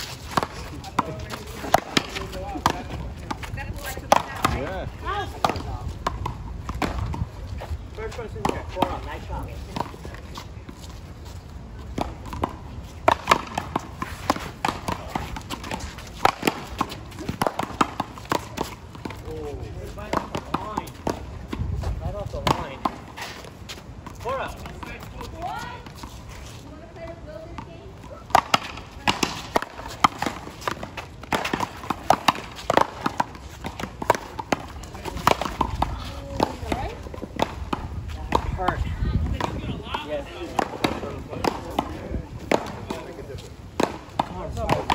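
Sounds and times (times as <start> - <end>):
ball cracking off paddles and wall: 0.0 - 7.3, 8.0 - 10.2, 11.8 - 26.4, 28.3 - 44.9
quick footsteps on court: 0.0 - 44.9.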